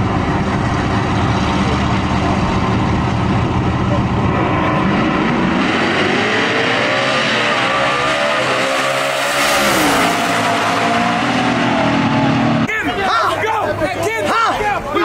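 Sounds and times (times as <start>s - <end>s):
race cars accelerating: 0.0s - 12.8s.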